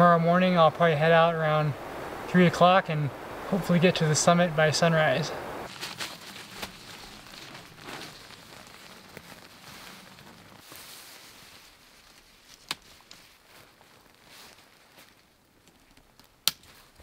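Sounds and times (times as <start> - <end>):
tent fabric rustling: 3.2 - 17.0.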